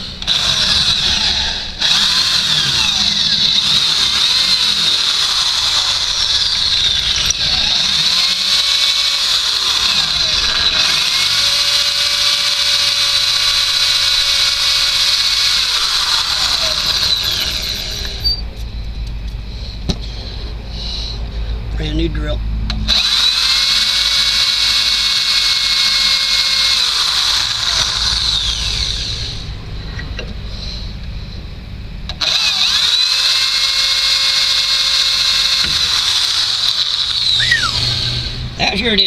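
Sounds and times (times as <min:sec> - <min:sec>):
electric drill boring into steel: 0:00.0 - 0:18.4, 0:22.9 - 0:29.6, 0:32.2 - 0:38.6.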